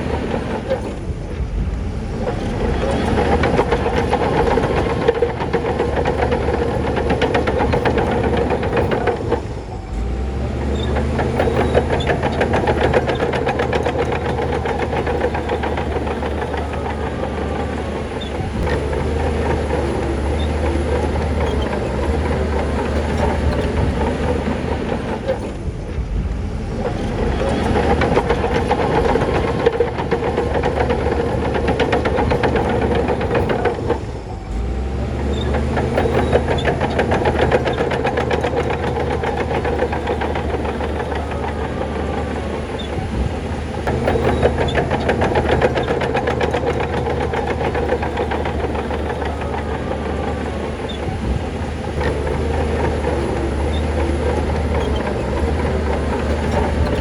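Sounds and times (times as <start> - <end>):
heavy diesel engine under load: 0.0 - 57.0
metallic clatter of tracks: 0.0 - 57.0.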